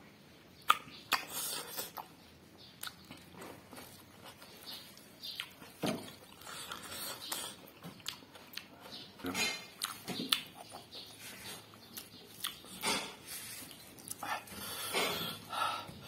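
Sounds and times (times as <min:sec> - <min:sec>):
person eating: 0:00.7 - 0:16.0.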